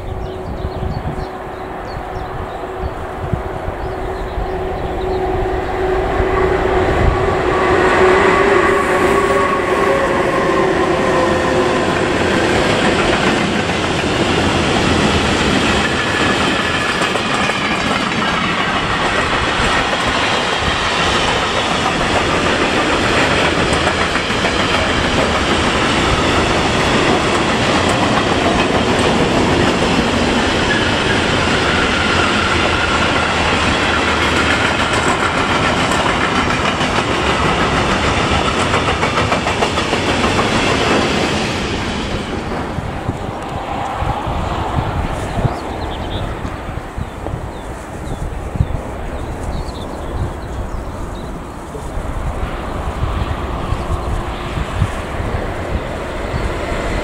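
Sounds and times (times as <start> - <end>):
locomotive whine: 0.0 - 48.4
train wheels clattering on rails: 7.7 - 57.0.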